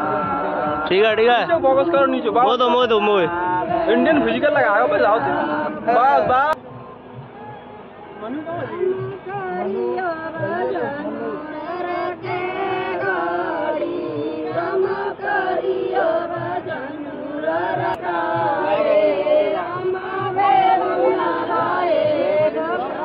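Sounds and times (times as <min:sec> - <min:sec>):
voices singing a chant: 0:00.0 - 0:23.0
faint low beat: 0:03.3 - 0:23.0.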